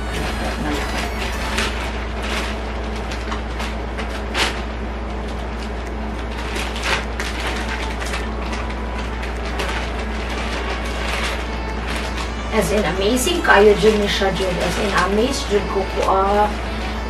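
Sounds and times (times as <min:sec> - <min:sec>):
low hum and hiss: 0:00.0 - 0:17.0
plastic bag crinkling: 0:00.0 - 0:17.0.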